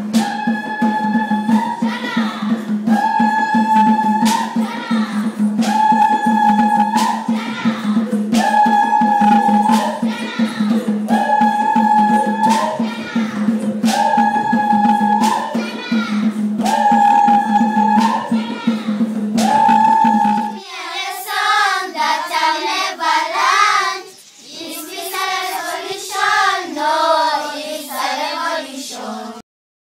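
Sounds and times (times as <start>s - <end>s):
sharp percussive strokes: 0.0s - 28.5s
children's choir singing unaccompanied: 0.0s - 29.4s
voices singing over a drone: 0.0s - 29.4s.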